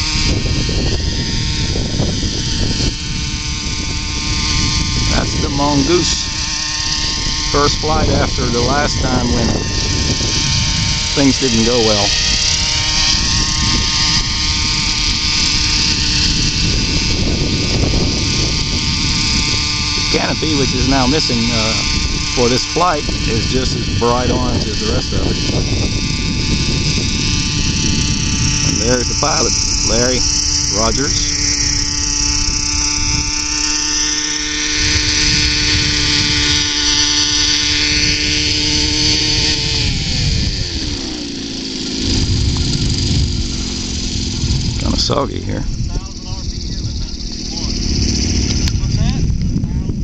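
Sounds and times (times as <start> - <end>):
model helicopter engine and rotors: 0.0 - 50.0.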